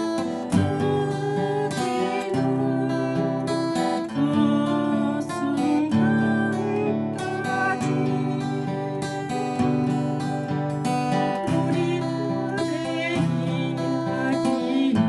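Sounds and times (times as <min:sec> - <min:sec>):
acoustic guitar arpeggio: 0:00.0 - 0:15.0.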